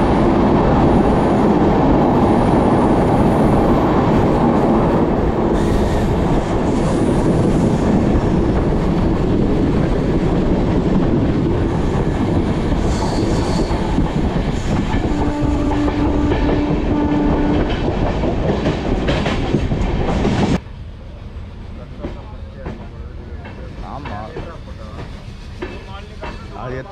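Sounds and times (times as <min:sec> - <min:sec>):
train coaches rumbling: 0:00.0 - 0:26.9.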